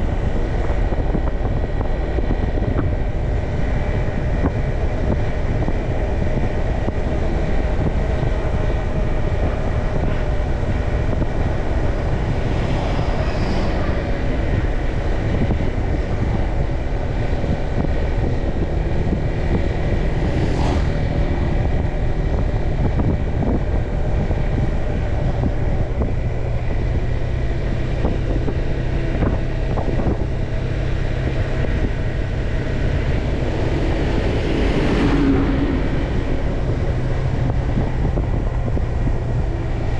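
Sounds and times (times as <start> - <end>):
motorbike engine hum: 0.0 - 39.9
vehicles whooshing past: 0.0 - 39.9
wind noise on microphone: 0.0 - 39.9.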